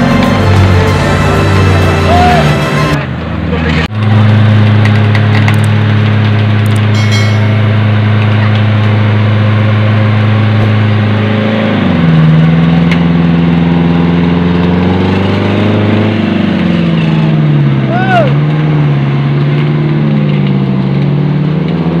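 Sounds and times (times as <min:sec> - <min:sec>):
off-road vehicle engine under load: 0:00.0 - 0:22.0.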